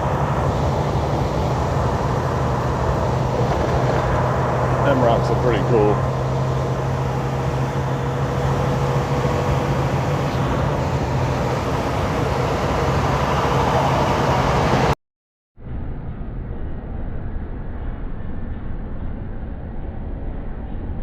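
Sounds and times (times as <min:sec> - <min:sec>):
road and wind noise: 0:00.0 - 0:15.0, 0:15.6 - 0:21.0
truck engine drone: 0:00.0 - 0:15.0, 0:15.6 - 0:21.0.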